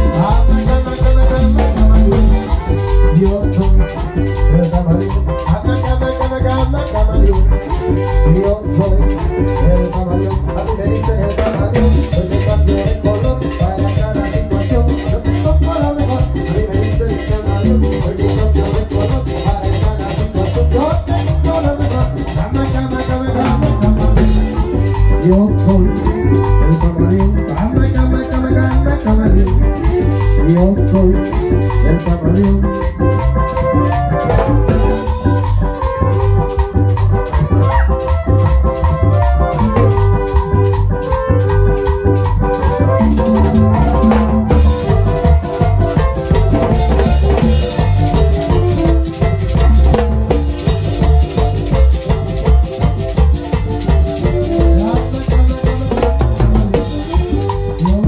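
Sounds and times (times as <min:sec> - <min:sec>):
band playing cumbia: 0:00.0 - 0:58.0.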